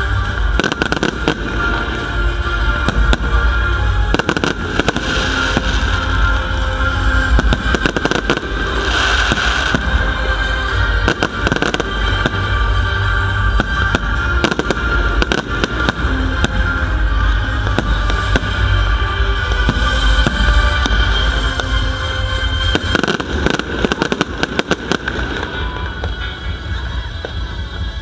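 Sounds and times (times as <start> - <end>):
fireworks bangs and crackles: 0.0 - 28.0
heavy low rumble: 0.0 - 28.0
music: 0.0 - 28.0.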